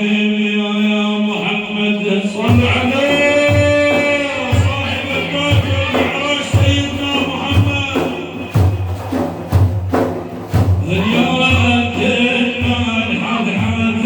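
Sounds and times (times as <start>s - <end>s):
man singing praise song: 0.0s - 9.4s, 10.5s - 14.0s
drum beating: 0.0s - 14.0s.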